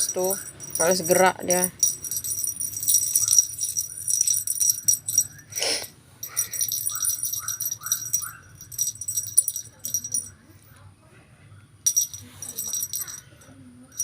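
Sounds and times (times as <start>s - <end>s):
small bell jingling: 0.0s - 10.5s, 11.8s - 14.0s.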